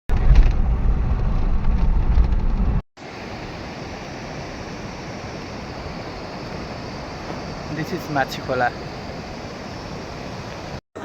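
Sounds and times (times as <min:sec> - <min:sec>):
steady rushing noise: 0:00.2 - 0:11.0.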